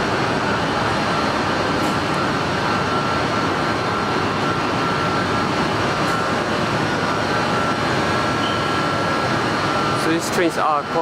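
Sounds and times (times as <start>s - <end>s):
thin high whine: 0.0s - 11.0s
train ventilation whirring drone: 0.0s - 11.0s.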